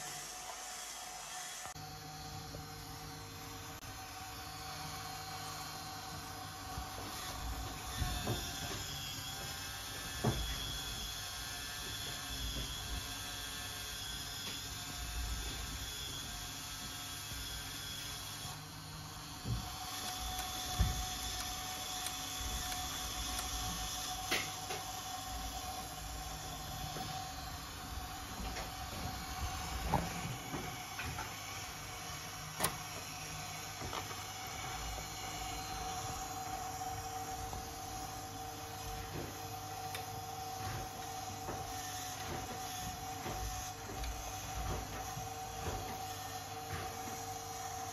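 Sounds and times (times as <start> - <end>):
small electric motor humming: 0.0 - 47.9.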